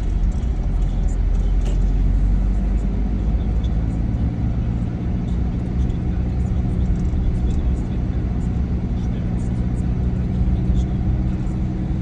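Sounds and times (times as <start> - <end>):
tyres and engine rumble: 0.0 - 12.0.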